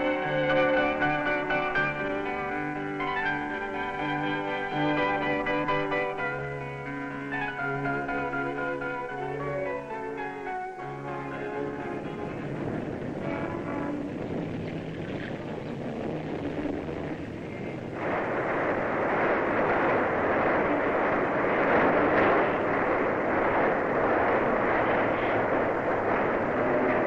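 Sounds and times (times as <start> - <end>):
elevated train running on steel: 0.0 - 27.0.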